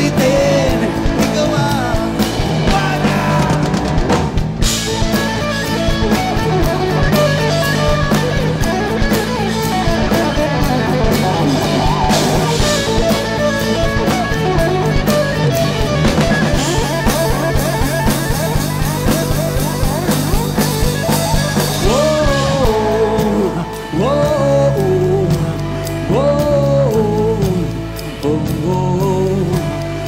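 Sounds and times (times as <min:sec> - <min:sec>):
instrumental rock music: 0:00.0 - 0:30.0.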